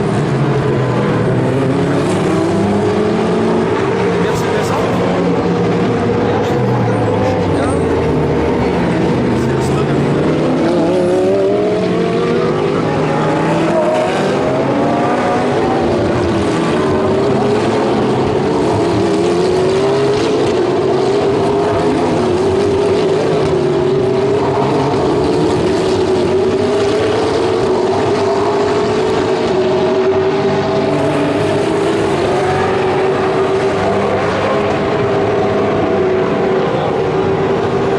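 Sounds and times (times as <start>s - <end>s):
race car engines revving: 0.0s - 37.9s.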